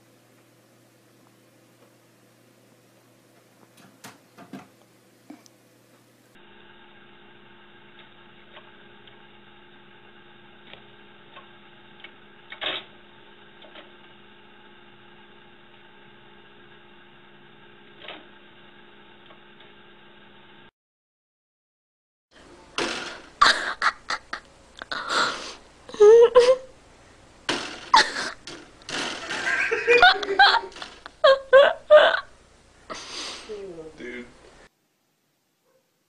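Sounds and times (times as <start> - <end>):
electrical hum: 0.0 - 20.7, 22.4 - 34.7.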